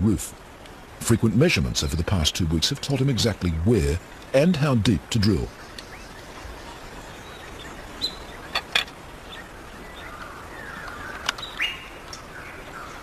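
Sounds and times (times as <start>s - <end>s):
birds chirping: 0.0s - 13.0s
outdoor hiss: 0.0s - 13.0s.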